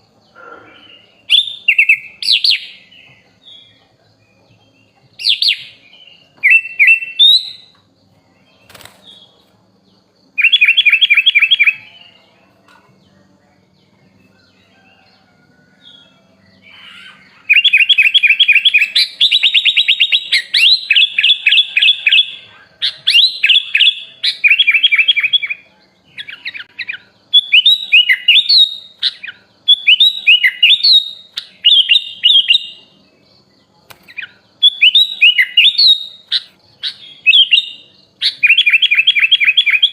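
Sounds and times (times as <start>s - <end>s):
bird singing trills and whistles: 0.0s - 9.5s, 10.3s - 12.4s, 15.8s - 33.1s, 33.9s - 39.9s.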